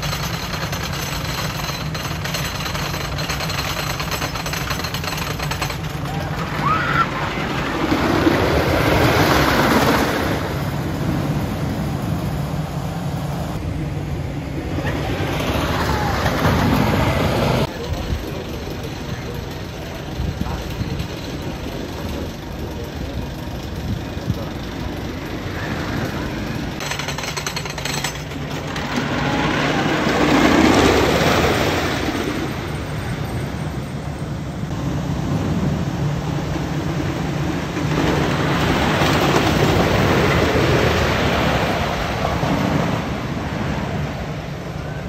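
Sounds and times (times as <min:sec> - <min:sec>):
roller coaster train rumbling: 0:00.0 - 0:45.0.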